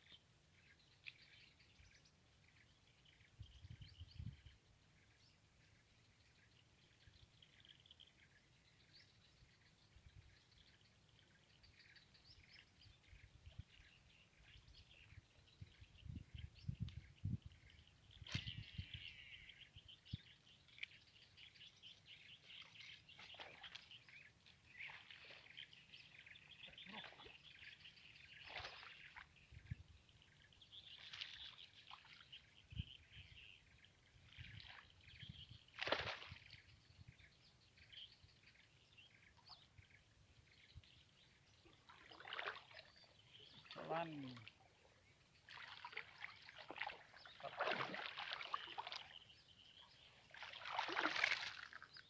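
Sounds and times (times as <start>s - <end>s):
faint birdsong: 0.0s - 52.0s.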